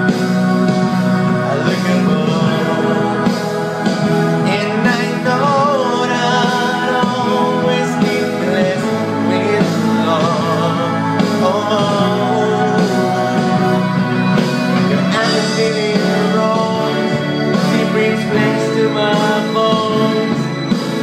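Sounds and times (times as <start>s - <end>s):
instrumental backing music: 0.0s - 21.0s
man singing into microphone: 1.2s - 21.0s.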